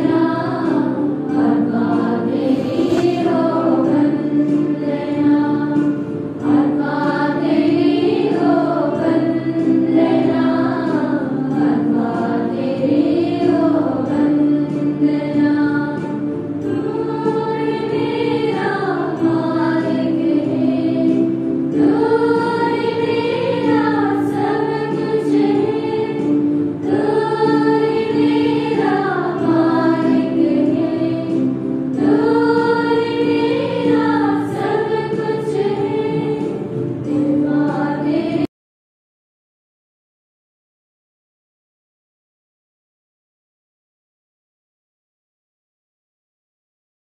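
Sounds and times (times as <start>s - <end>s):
choir singing a slow hymn: 0.0s - 38.5s.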